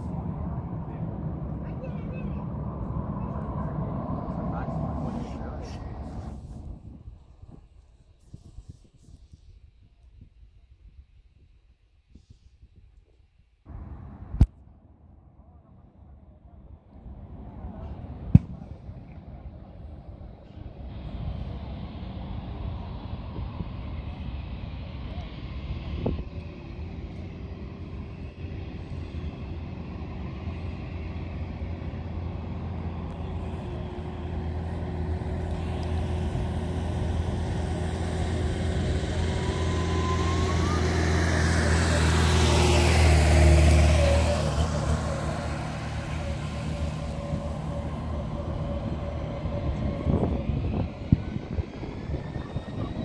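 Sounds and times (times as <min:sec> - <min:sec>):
heavy vehicle passing: 0:00.0 - 0:07.1, 0:16.6 - 0:53.0
distant jet engines whining: 0:00.0 - 0:09.4, 0:13.7 - 0:53.0.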